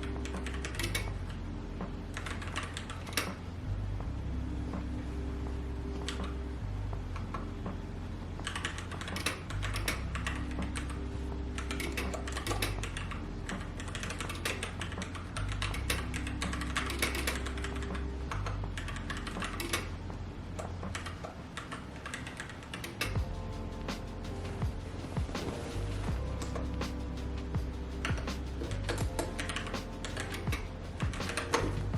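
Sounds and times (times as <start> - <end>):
soft background music: 0.0 - 31.9.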